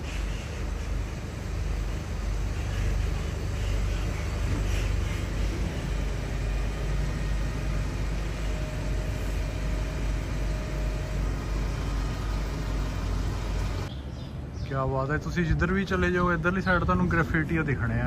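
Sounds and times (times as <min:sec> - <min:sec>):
low rumble of city noise: 0:00.0 - 0:18.0.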